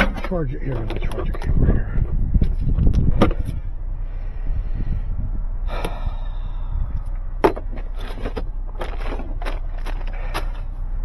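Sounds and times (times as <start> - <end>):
vehicle rumble inside cab: 0.0 - 11.0.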